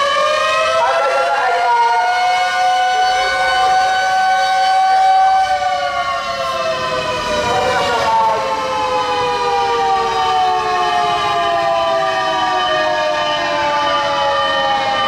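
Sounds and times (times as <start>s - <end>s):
fire engine sirens wailing: 0.0s - 15.0s.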